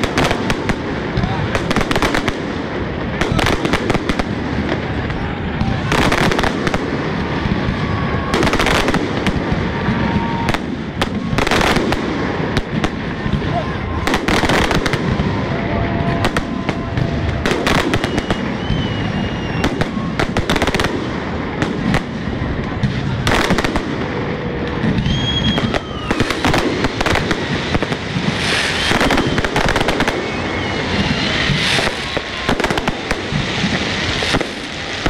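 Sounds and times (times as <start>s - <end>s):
faint firework whistles: 0.0s - 35.0s
fireworks bursting: 0.0s - 35.0s.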